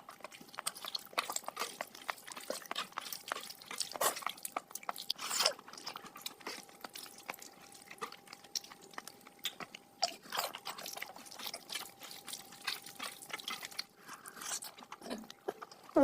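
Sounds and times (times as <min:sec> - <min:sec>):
faint steady hum: 0:00.0 - 0:16.0
wet chewing and lip smacks: 0:00.0 - 0:16.0.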